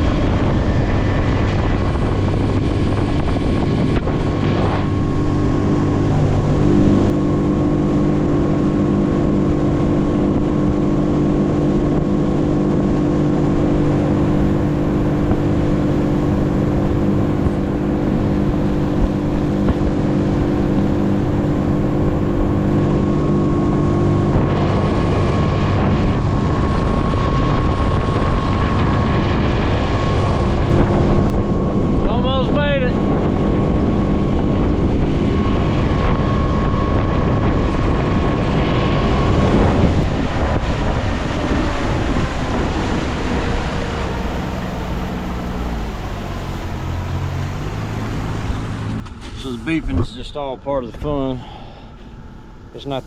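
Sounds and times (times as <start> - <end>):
boat motor running: 0.0 - 53.0
wind buffeting microphone: 0.0 - 53.0.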